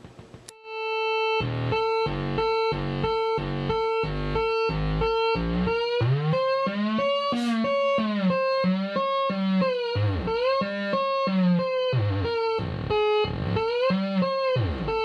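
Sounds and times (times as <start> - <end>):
buzzy synth tone pulsing: 0.1 - 15.0.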